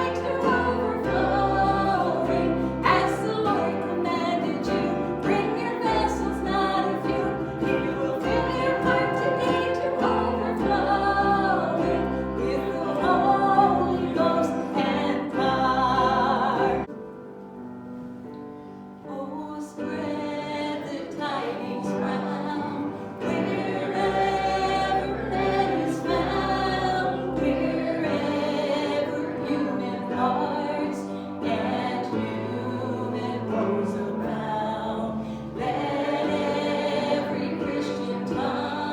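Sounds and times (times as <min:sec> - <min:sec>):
group singing worship song: 0:00.0 - 0:16.9, 0:19.1 - 0:38.9.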